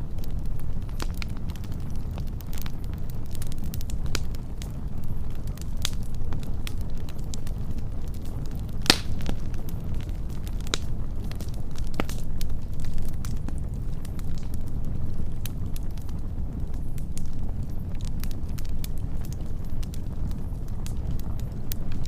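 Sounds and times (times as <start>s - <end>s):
fire crackling and popping: 0.0s - 22.0s
wood fire rumbling: 0.0s - 22.0s.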